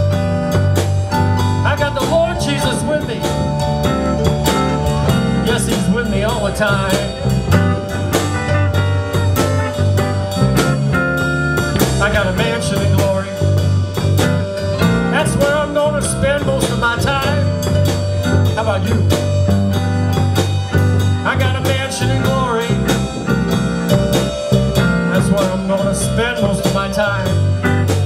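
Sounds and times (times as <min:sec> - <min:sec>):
bass guitar: 0:00.0 - 0:28.0
electric guitar: 0:00.0 - 0:28.0
keyboard: 0:00.0 - 0:28.0
steady drum beat: 0:00.0 - 0:28.0.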